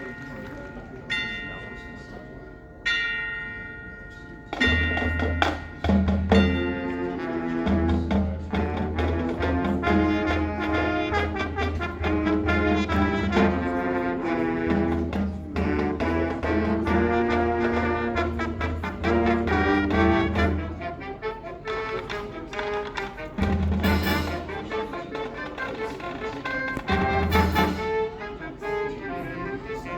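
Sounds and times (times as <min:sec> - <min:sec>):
marching band brass playing: 0:04.6 - 0:29.9.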